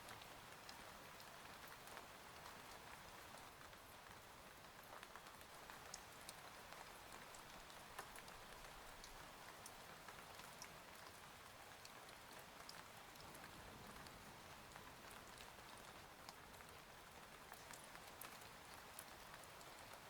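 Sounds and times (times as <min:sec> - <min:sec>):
faint rain with drop taps: 0:00.0 - 0:20.0.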